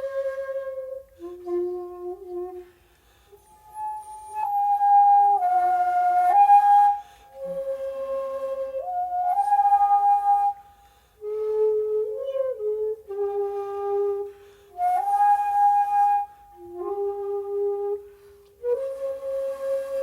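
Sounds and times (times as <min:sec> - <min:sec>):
shakuhachi flute playing: 0:00.0 - 0:20.0.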